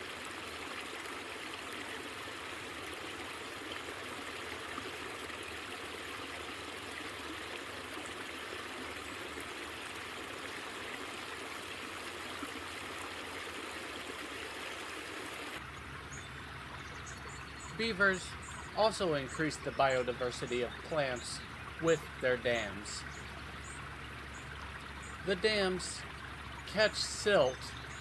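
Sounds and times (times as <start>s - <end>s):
stream trickling and splashing: 0.0s - 28.0s.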